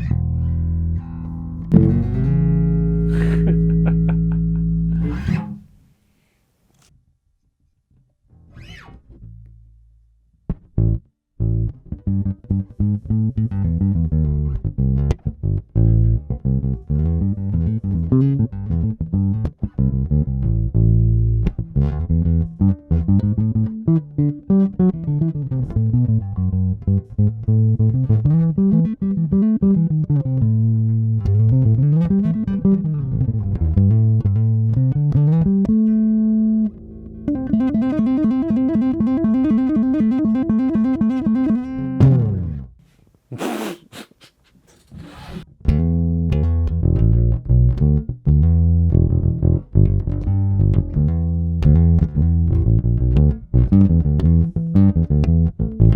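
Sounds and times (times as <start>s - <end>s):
electric bass plucked notes: 0.0s - 5.8s, 10.5s - 42.8s, 45.4s - 55.9s.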